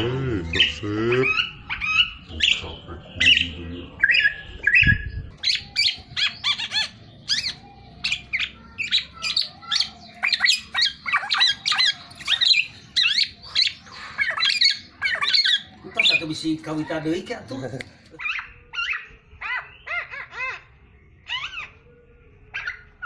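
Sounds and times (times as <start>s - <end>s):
oriole calling: 0.0s - 23.0s.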